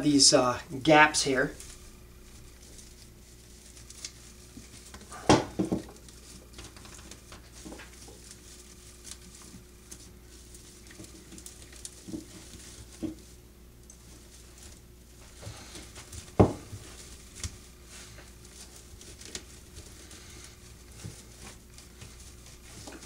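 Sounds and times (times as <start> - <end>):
twig broom rustling and crackling: 0.0 - 23.0.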